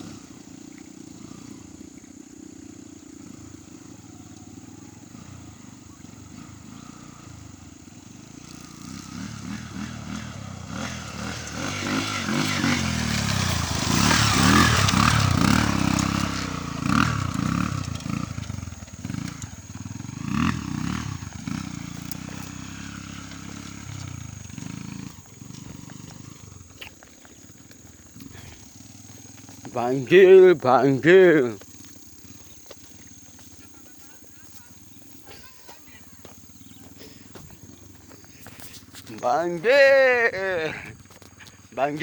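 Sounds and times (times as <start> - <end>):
engine revving: 0.0 - 1.9, 2.5 - 40.8.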